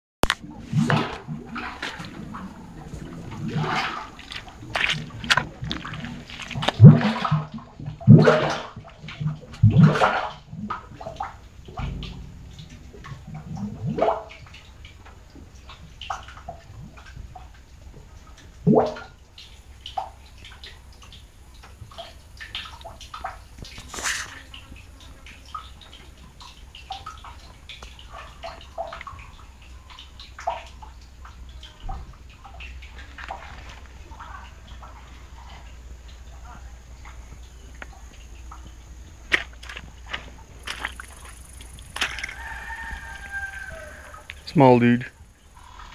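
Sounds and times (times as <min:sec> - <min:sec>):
water and mud gurgling: 0:00.2 - 0:45.9.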